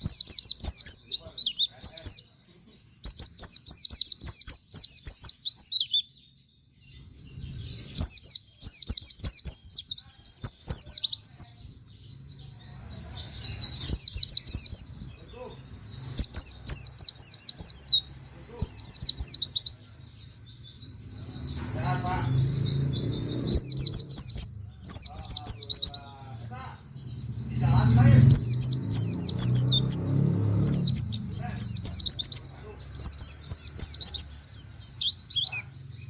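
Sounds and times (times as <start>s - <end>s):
small bird singing rapid notes: 0.0s - 36.0s.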